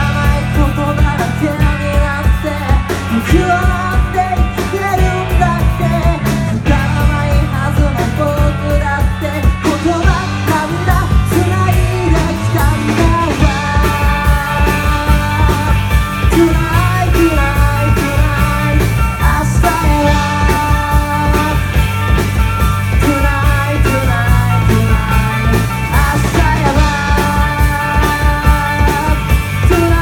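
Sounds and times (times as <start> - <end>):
drum kit steady beat: 0.0 - 30.0
electric bass: 0.0 - 30.0
electric guitars: 0.0 - 30.0
person singing lead vocal: 0.0 - 30.0.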